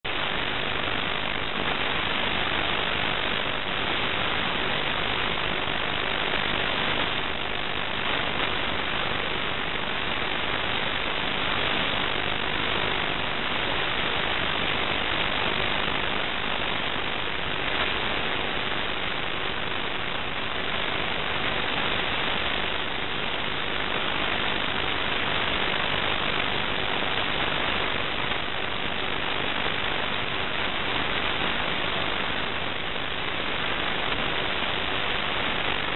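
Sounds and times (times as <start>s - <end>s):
static hiss: 0.0s - 35.9s.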